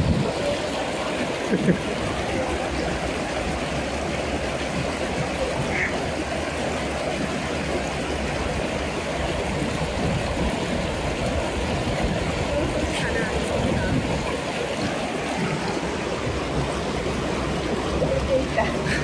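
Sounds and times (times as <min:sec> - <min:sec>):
fast-flowing water rushing: 0:00.0 - 0:19.0.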